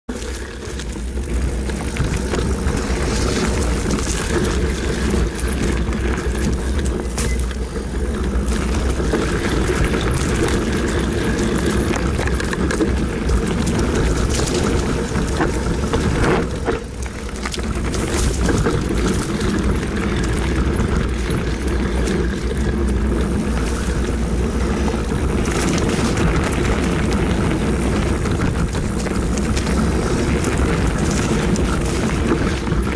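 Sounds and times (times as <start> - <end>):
mountain bike rattling downhill: 0.1 - 32.9
wind rumble on microphone: 0.1 - 32.9.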